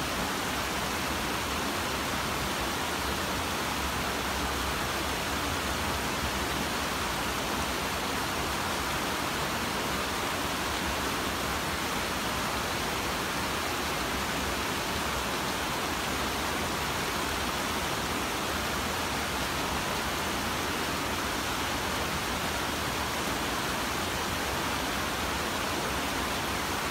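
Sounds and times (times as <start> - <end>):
stream rushing over rocks: 0.0 - 26.9.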